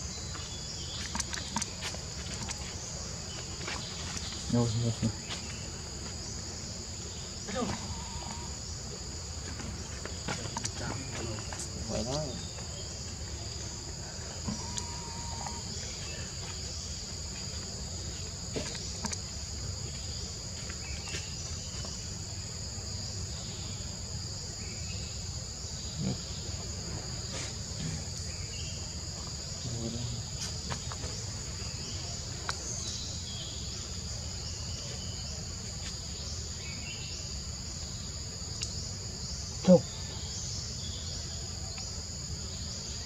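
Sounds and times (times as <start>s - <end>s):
insect chorus drone: 0.0s - 43.0s.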